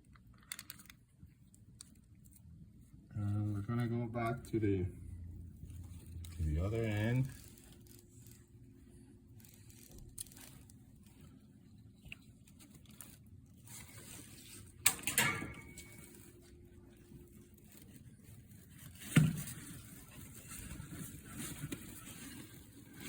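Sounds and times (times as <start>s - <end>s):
handling blind parts: 0.0s - 3.6s, 5.5s - 23.0s.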